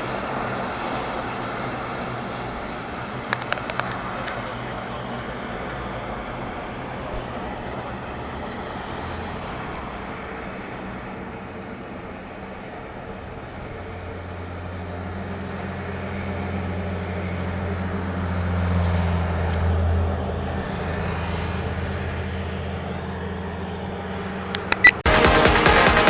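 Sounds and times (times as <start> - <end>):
jet engine drone: 0.0 - 25.0.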